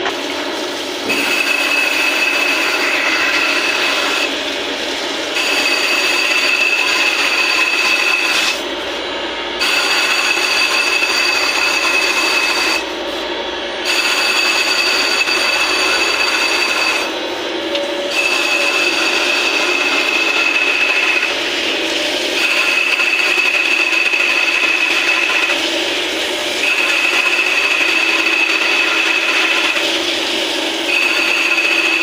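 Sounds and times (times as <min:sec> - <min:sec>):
machine cutting steel: 0:00.0 - 0:32.0.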